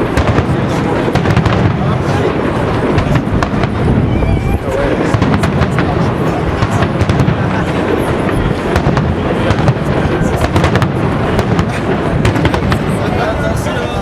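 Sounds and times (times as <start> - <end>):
fireworks bursting with crackling pops: 0.0 - 13.9.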